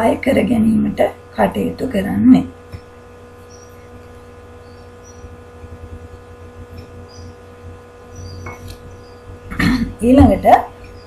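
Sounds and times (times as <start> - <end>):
background hum with tones: 0.0 - 11.0.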